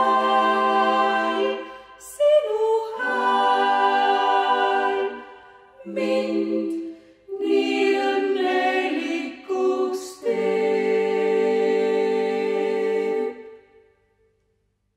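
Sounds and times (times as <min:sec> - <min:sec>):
vocal ensemble singing a cappella: 0:00.0 - 0:14.0.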